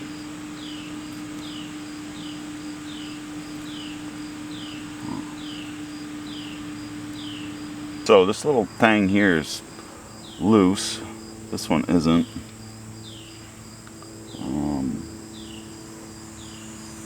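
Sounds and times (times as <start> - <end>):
insects chirping: 0.0 - 17.0
steady low hum: 0.0 - 17.0.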